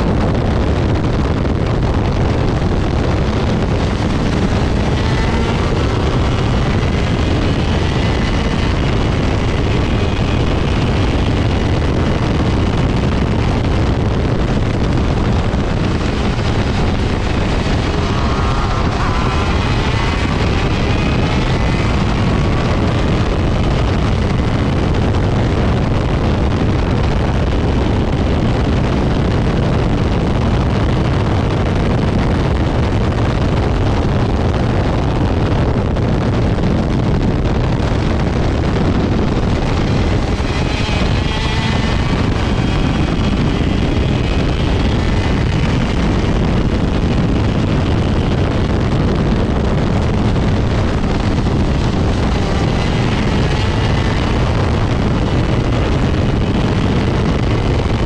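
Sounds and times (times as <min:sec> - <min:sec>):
two-stroke kart engine racing: 0:00.0 - 0:58.0
wind noise on microphone: 0:00.0 - 0:58.0.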